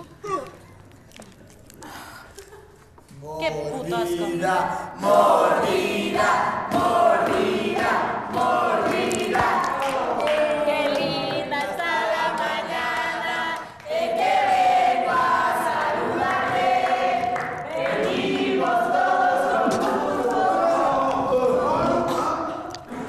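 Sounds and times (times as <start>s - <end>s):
voices singing together: 3.8s - 23.0s.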